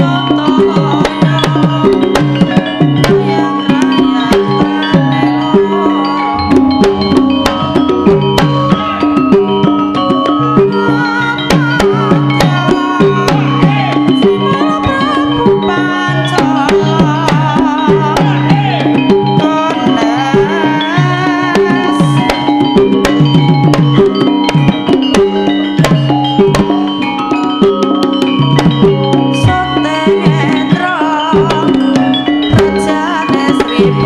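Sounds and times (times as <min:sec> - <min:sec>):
hand drums playing: 0:00.0 - 0:34.0
sustained pitched tones: 0:00.0 - 0:34.0
wavering melodic line: 0:00.0 - 0:34.0.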